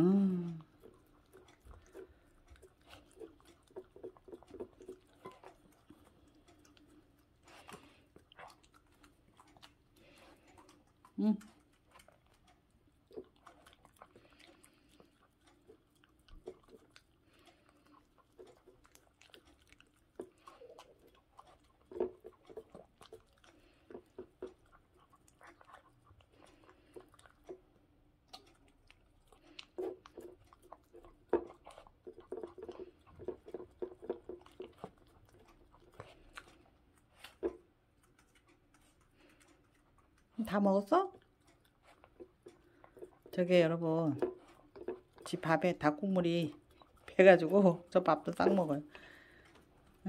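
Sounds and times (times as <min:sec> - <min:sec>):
dog chewing dry kibble: 0:00.6 - 0:50.0.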